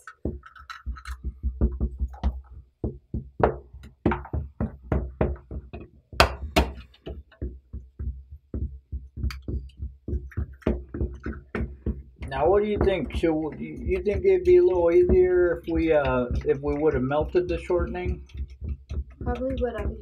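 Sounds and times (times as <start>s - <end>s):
wooden spoon knocking glass bowl: 0.0s - 20.0s.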